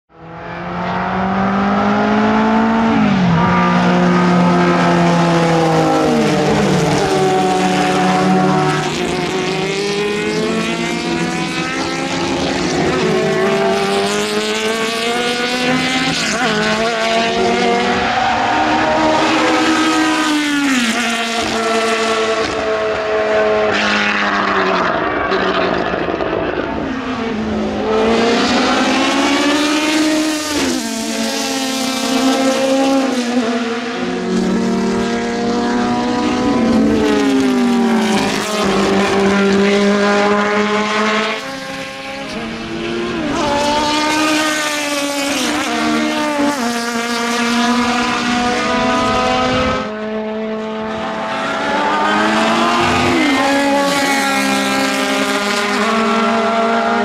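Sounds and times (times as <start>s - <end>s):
racing cars passing at speed: 0.1s - 57.0s.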